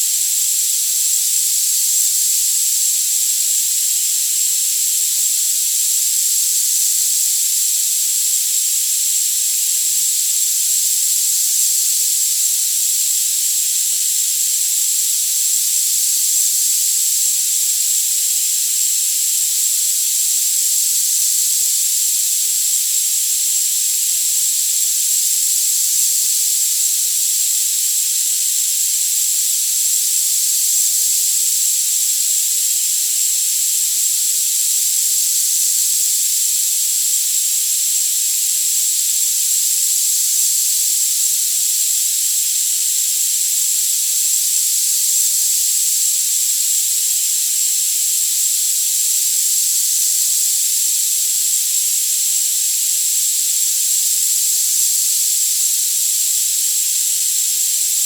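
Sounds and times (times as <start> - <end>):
high-pitched hiss: 0.0 - 58.0.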